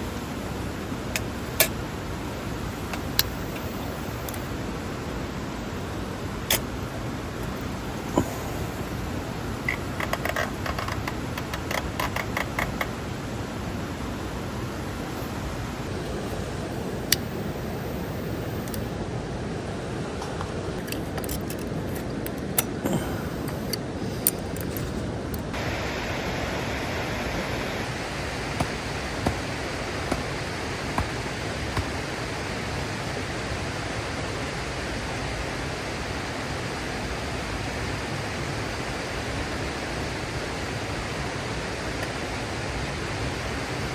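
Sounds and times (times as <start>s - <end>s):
mountain stream rushing: 0.0s - 20.8s, 25.5s - 43.9s.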